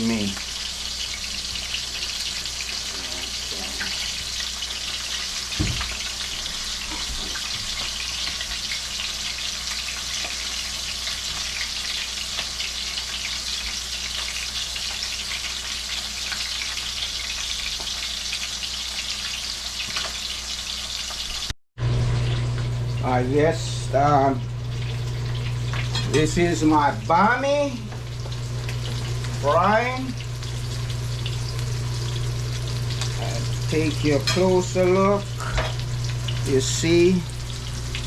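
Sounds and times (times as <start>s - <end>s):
fish frying in hot oil: 0.0s - 38.0s.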